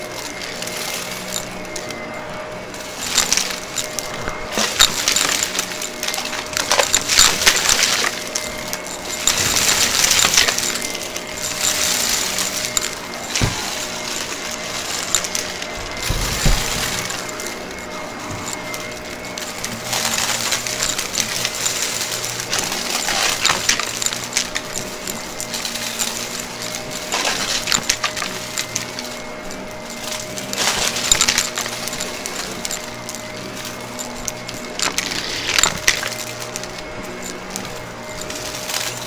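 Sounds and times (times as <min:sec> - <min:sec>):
debris rattling through vacuum: 0:00.0 - 0:39.0
vacuum cleaner motor whine: 0:00.0 - 0:39.0.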